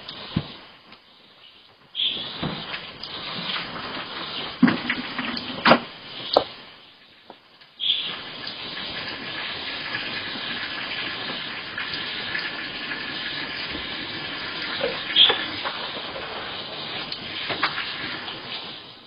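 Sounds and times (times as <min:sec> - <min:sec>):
water running and splashing: 0:02.2 - 0:06.7, 0:08.0 - 0:19.0.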